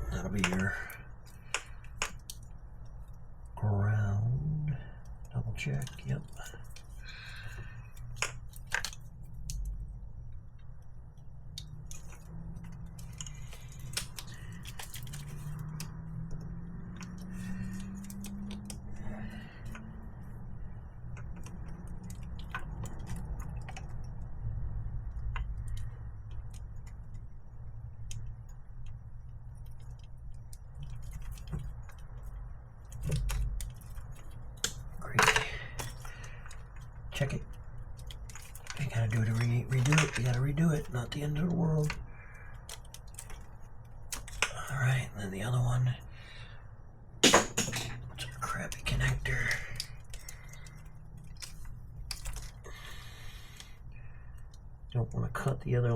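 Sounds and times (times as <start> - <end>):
tools and wires clicking and rattling: 0.0 - 3.6, 5.0 - 44.8, 47.2 - 55.6
steady low hum: 0.0 - 55.9.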